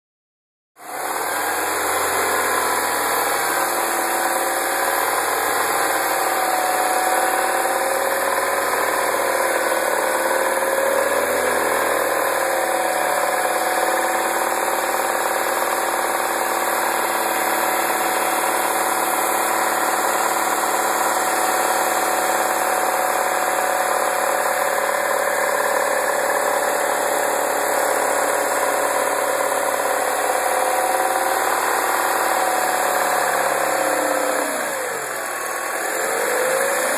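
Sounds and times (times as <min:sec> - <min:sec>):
engine rattle: 0:00.9 - 0:36.9
car engine idling: 0:01.0 - 0:36.9.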